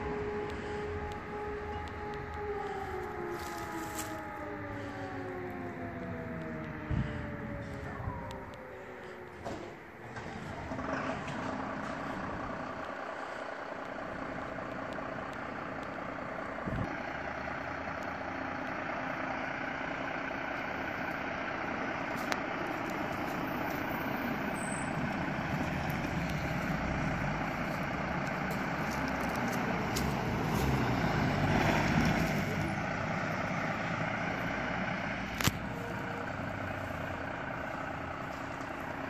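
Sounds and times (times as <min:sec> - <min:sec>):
fire engines idling: 0:00.0 - 0:39.0
vehicle driving up: 0:00.0 - 0:39.0.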